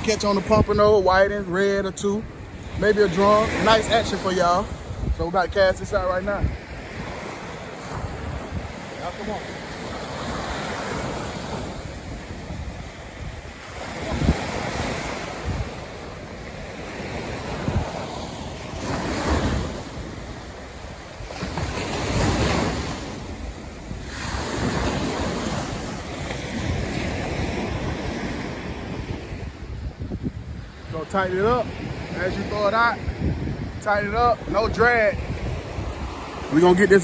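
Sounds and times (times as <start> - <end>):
surf breaking on beach: 0.0 - 37.0
wind buffeting microphone: 0.0 - 37.0.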